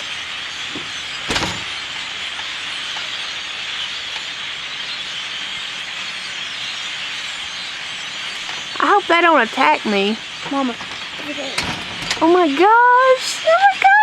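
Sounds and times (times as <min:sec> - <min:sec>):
flock of crows cawing: 0:00.0 - 0:13.6.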